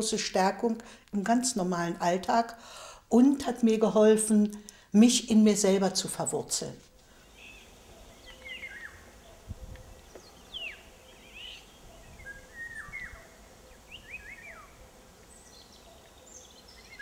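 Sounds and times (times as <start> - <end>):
songbirds chirping: 3.2 - 17.0.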